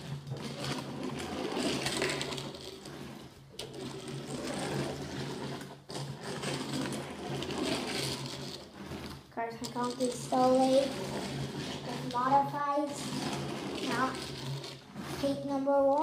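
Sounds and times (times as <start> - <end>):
toy car wheels whirring on wooden track: 0.0 - 16.0.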